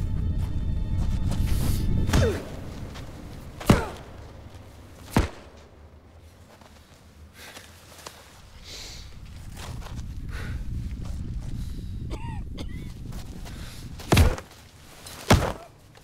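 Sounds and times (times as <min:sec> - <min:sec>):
low rumbling drone: 0:00.0 - 0:06.5, 0:08.3 - 0:15.0.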